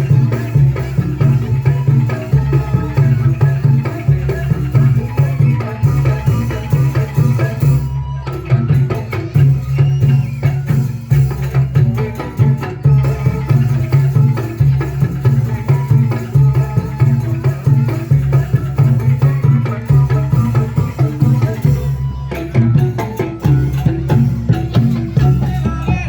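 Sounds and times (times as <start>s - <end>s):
band music with steady beat: 0.0s - 26.0s
hand drums: 0.0s - 26.0s.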